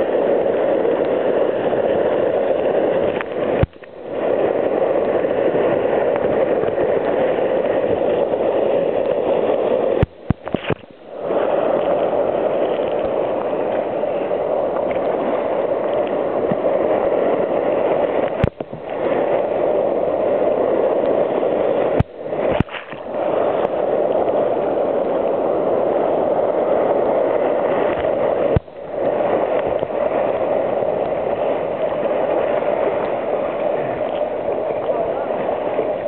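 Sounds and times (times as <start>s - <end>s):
whitewater rushing: 0.0s - 36.0s.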